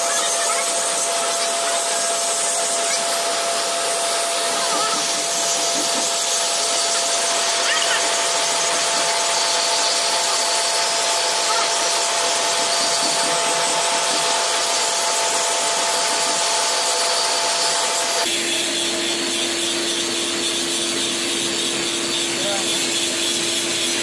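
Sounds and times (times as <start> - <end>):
hissing workshop noise: 0.0 - 24.0.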